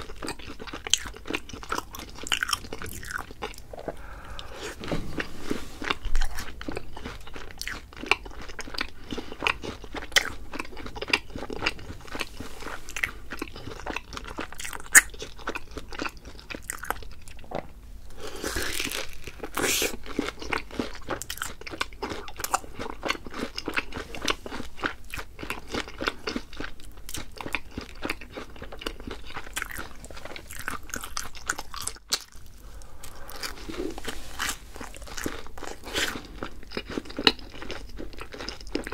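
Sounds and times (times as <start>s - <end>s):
crunching of fried food: 0.0s - 38.9s.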